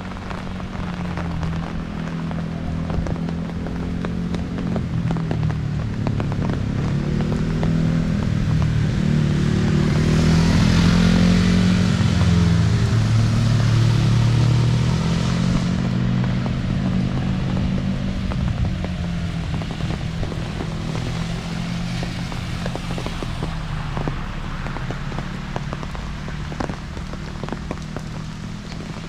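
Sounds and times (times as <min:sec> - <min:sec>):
rain: 0:00.0 - 0:29.0
tyres hissing on wet road: 0:00.0 - 0:29.0
vehicle engine humming: 0:00.0 - 0:29.0.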